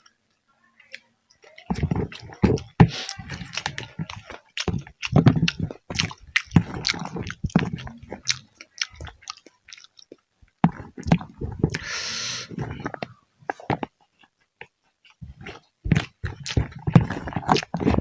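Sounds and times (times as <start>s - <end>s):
person chewing food: 0.9s - 18.0s.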